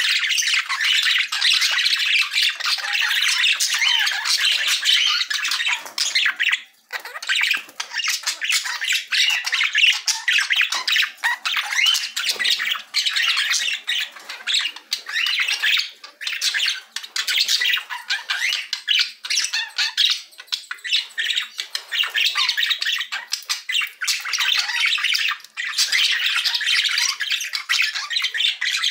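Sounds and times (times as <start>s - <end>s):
budgerigars chattering: 0.0s - 28.9s.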